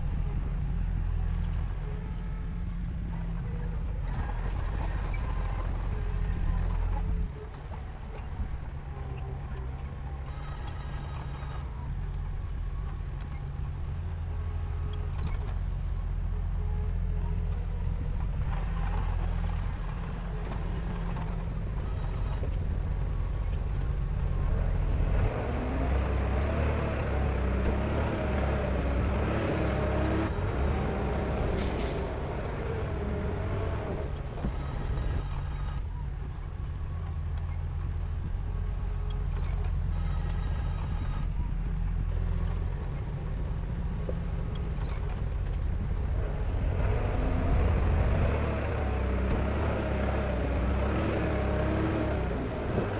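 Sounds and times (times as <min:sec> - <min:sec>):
diesel bulldozer running: 0:00.0 - 0:52.9.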